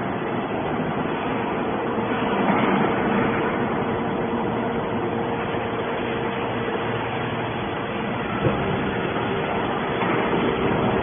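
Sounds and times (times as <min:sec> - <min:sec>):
baler machine hum: 0:00.0 - 0:11.0.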